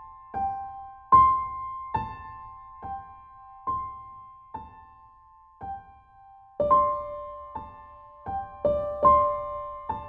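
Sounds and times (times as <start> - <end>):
slow gentle piano music: 0.0 - 10.0.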